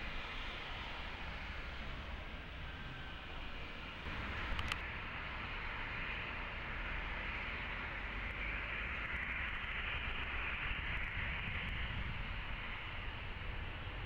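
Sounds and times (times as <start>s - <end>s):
jet engines running at taxi power: 0.0s - 14.0s.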